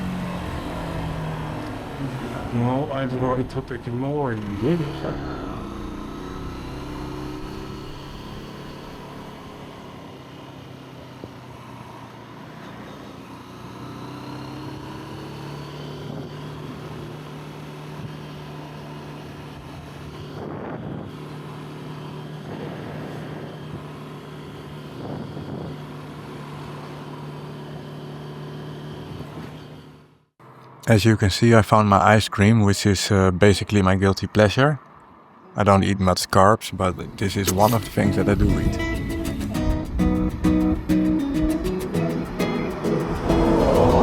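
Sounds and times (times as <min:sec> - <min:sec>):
motorcycle engine droning: 0:00.0 - 0:30.2, 0:36.8 - 0:44.0.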